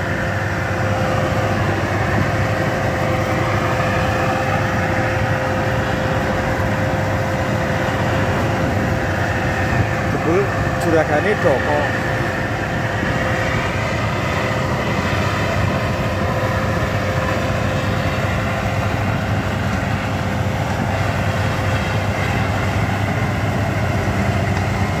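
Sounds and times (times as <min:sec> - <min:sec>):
combine harvester drone: 0:00.0 - 0:25.0
machine whine: 0:00.0 - 0:25.0.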